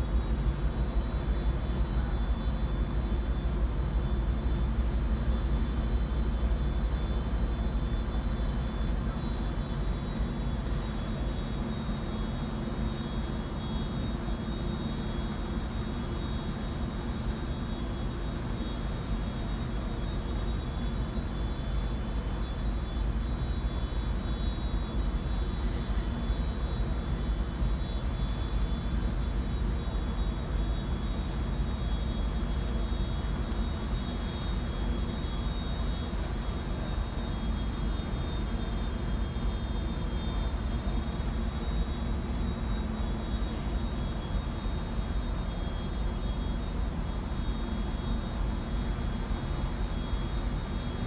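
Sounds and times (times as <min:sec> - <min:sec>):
high-pitched whine: 0:00.0 - 0:51.0
low drone of ship engines: 0:00.0 - 0:51.0.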